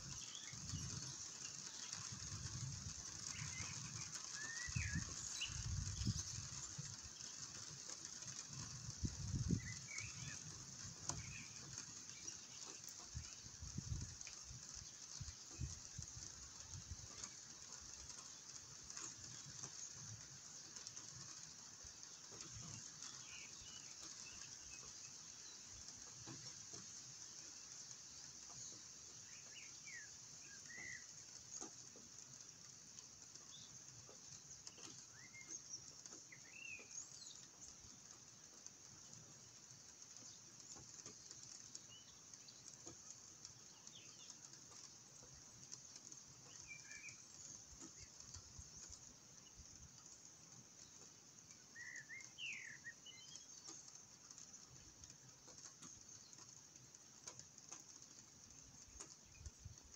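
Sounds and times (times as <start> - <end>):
faint bird chirps: 0.0 - 26.5, 28.3 - 32.7, 33.3 - 59.8
light ticks: 0.0 - 59.9
steady high hiss: 0.0 - 59.9.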